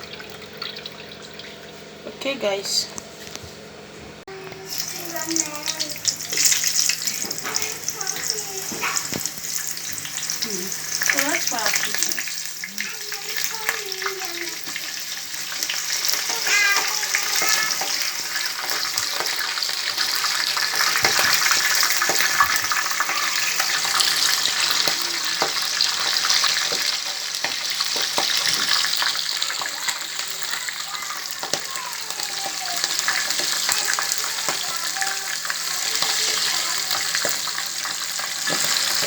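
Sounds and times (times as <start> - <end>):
food sizzling in hot oil: 0.0 - 3.2, 4.6 - 39.0.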